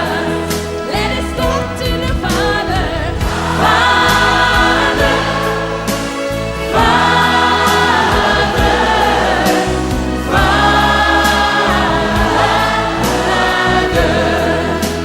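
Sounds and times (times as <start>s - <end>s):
bass notes and beat: 0.0s - 14.8s
choir singing: 0.0s - 15.0s.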